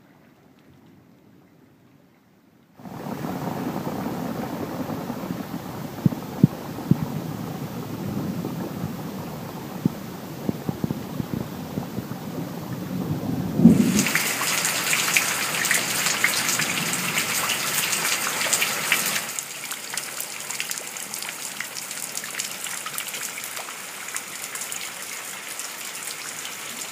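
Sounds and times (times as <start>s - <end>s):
heavy rain splashing into water: 2.8s - 26.9s.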